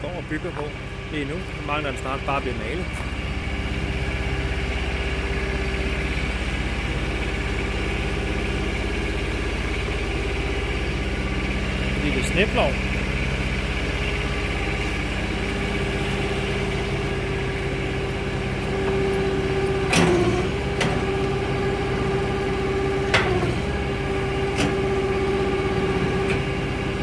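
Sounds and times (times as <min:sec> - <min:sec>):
steady whine: 0:00.0 - 0:27.0
vehicle engine idling: 0:00.0 - 0:27.0.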